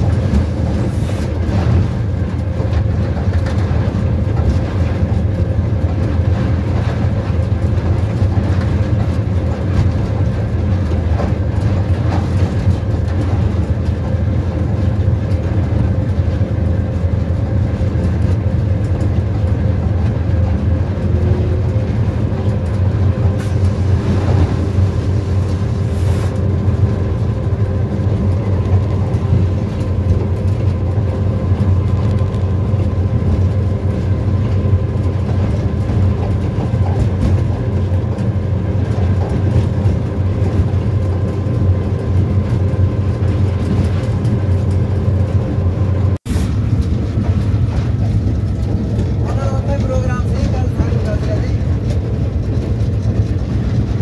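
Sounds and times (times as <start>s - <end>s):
train carriage rumbling on rails: 0.0s - 54.0s.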